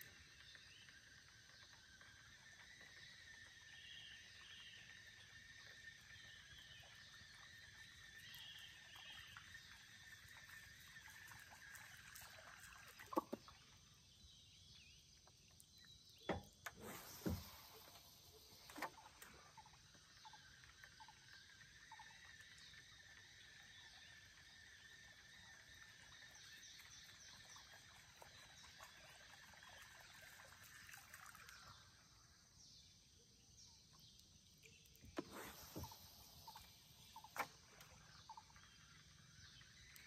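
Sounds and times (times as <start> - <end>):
frogs and insects chorus: 0.0 - 40.0.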